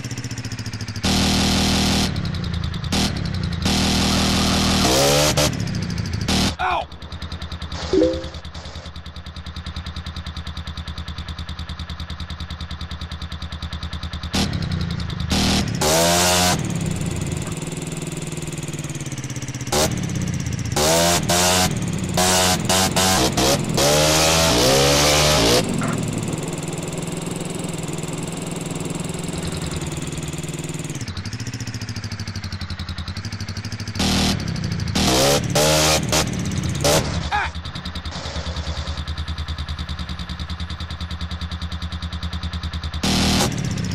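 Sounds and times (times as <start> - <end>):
scooter engine idling and revving: 0.0 - 43.9.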